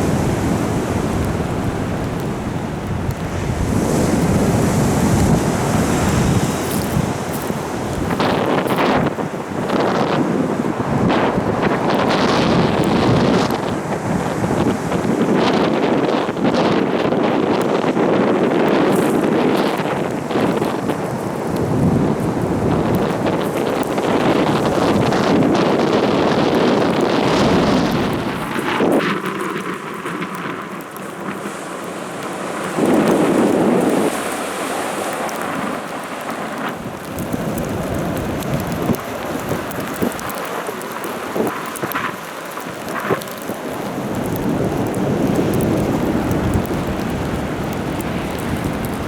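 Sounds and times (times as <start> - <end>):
heavy rain: 0.0 - 49.0
wind buffeting microphone: 0.0 - 49.0.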